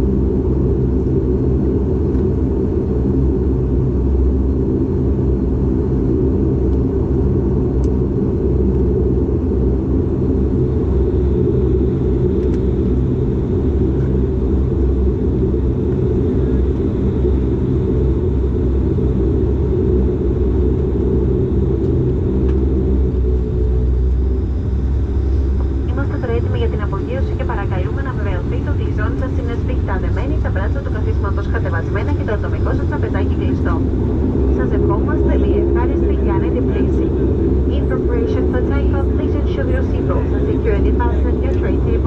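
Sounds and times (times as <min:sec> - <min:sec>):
turboprop engine drone: 0:00.0 - 0:42.0.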